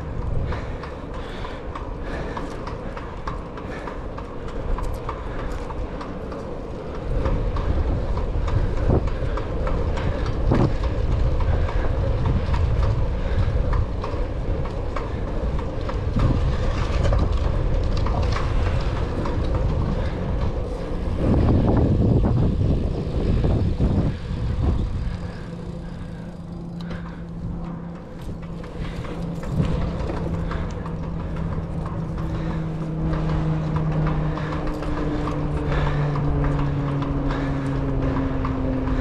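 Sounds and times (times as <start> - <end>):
bicycle clicks and rattles: 0.0 - 39.0
bicycle tyres on asphalt: 0.0 - 39.0
wind rumbling over microphone: 0.0 - 39.0.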